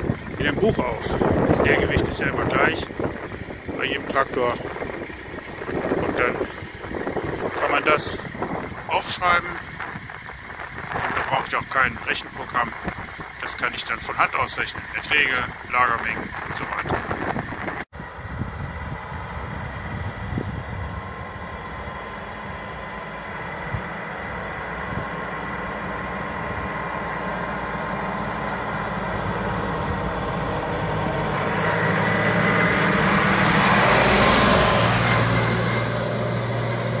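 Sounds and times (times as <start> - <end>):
tractor diesel engine: 0.0 - 37.0.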